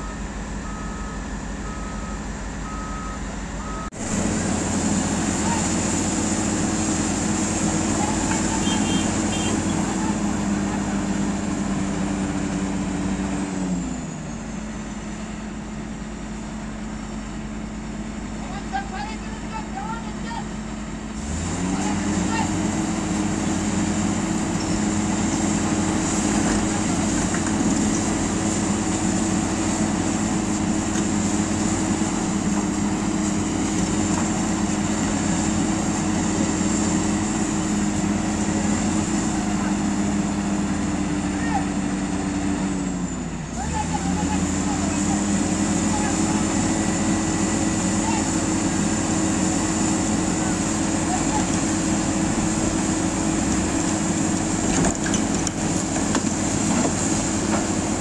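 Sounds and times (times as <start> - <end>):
diesel engines droning: 0.0 - 58.0.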